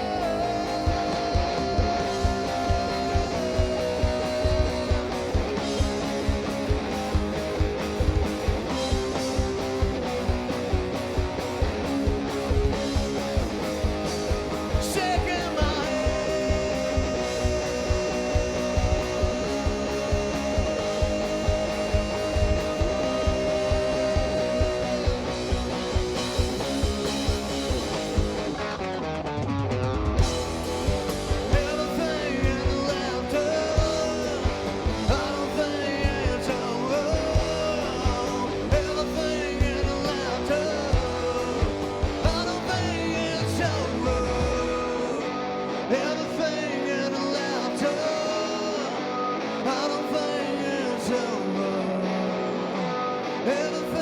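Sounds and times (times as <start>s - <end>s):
bass guitar: 0.0s - 54.0s
drums: 0.0s - 54.0s
electric guitar lead: 0.0s - 54.0s.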